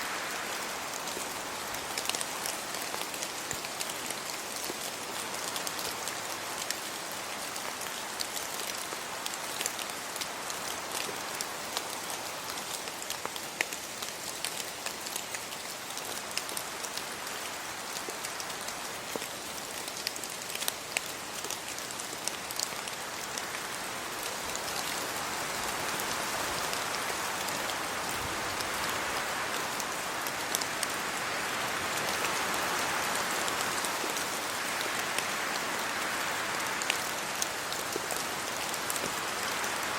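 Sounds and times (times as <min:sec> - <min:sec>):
rain on leaves and road: 0:00.0 - 0:39.9
raindrops ticking close by: 0:00.1 - 0:39.9.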